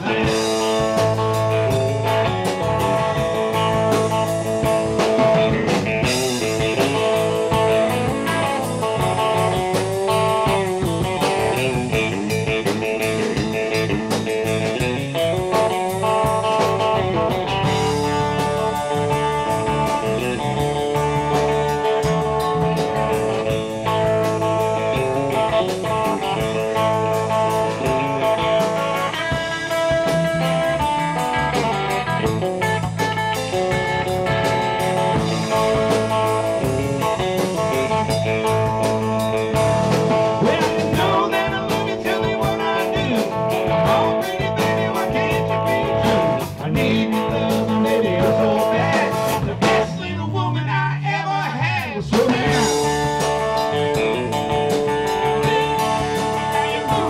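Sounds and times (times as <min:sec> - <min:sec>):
live rock band playing: 0:00.0 - 0:50.2, 0:51.4 - 0:57.0
bent electric guitar notes: 0:00.0 - 0:50.4, 0:51.6 - 0:57.0.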